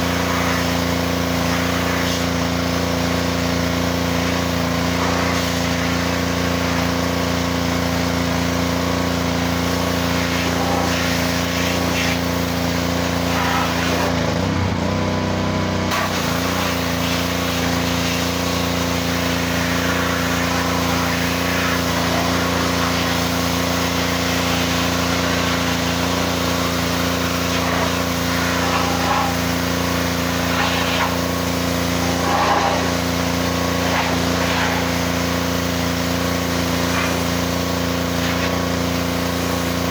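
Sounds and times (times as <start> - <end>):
pressure washer motor drone: 0.0 - 39.9.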